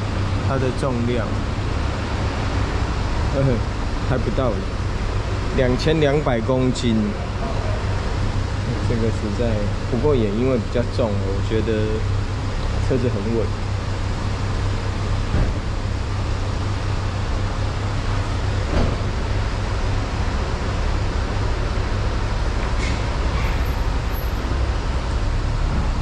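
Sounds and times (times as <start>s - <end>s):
suv engine idling: 0.0s - 26.0s.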